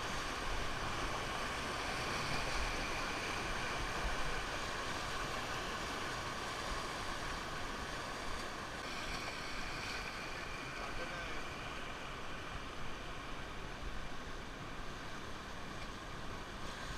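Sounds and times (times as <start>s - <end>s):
rushing river water: 0.0s - 16.9s.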